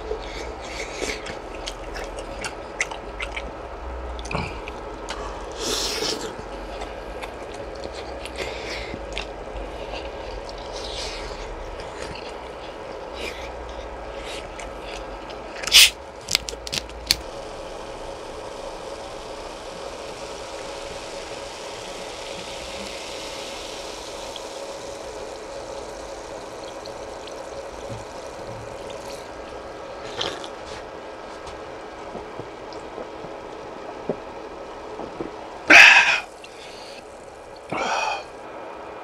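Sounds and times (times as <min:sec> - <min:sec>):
steady hum: 0:00.0 - 0:39.0
wet eating sounds: 0:00.1 - 0:34.2.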